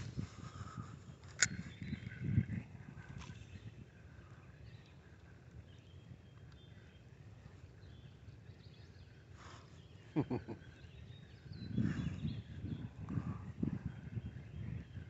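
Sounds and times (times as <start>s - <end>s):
faint bird calls: 0.0s - 15.0s
low steady rumble: 0.0s - 15.0s.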